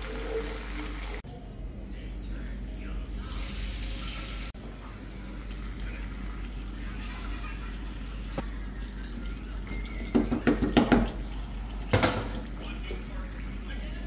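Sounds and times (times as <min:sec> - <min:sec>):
sauce simmering in frying pan: 0:00.0 - 0:01.2, 0:03.5 - 0:14.0
water hissing in hot oil: 0:00.0 - 0:01.2, 0:03.2 - 0:14.0.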